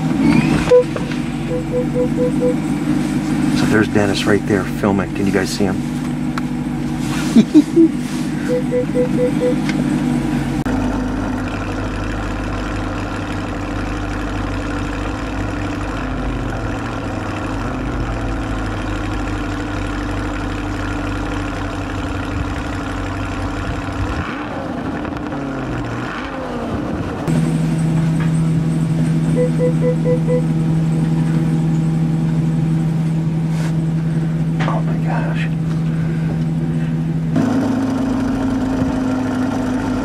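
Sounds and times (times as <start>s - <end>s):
car engine idling: 0.0s - 26.0s, 26.8s - 40.0s.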